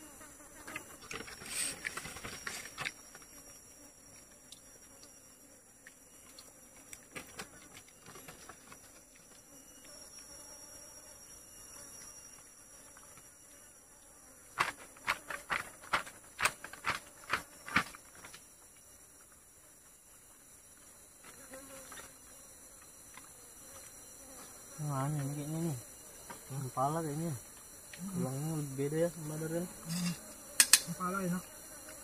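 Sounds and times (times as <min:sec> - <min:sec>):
insects buzzing: 0:00.0 - 0:32.0.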